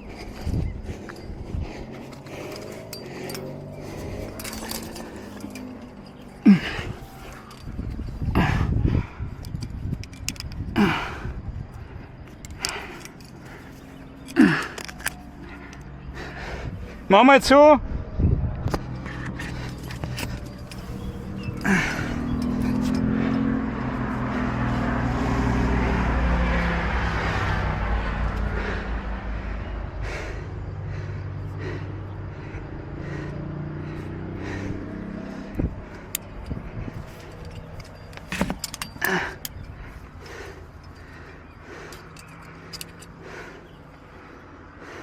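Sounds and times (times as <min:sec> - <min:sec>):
vehicle engine passing: 0:00.0 - 0:17.2, 0:17.8 - 0:45.0
climbing gear clicks: 0:00.0 - 0:17.4, 0:18.6 - 0:28.8, 0:30.2 - 0:45.0.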